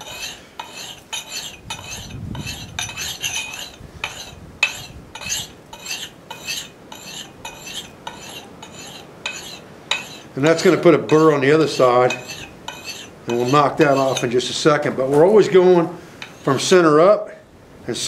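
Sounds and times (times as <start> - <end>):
sharpening stone scraping axe: 0.0 - 14.4, 16.2 - 16.7.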